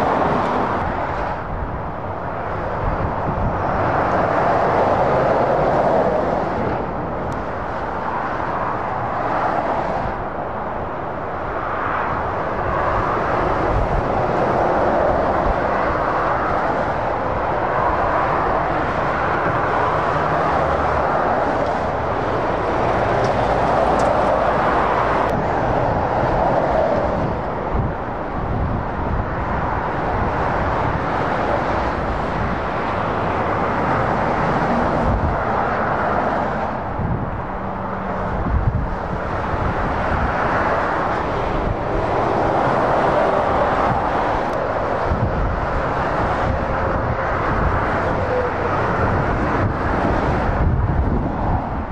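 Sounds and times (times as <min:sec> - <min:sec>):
motorway traffic passing: 0:00.0 - 0:51.9.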